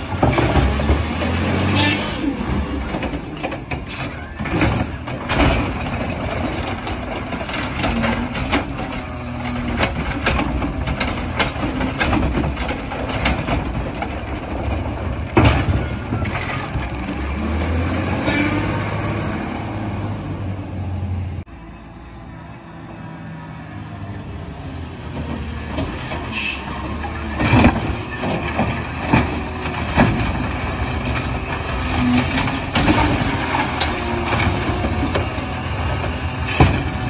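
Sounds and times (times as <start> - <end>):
garbage truck engine running: 0.0 - 21.4, 24.5 - 37.0.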